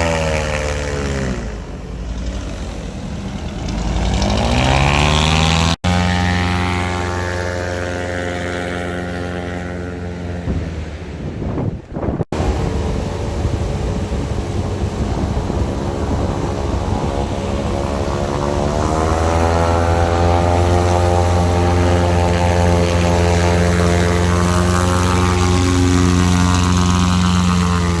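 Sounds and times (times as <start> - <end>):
airboat engine running: 0.0 - 28.0
rush of propeller air: 0.0 - 28.0.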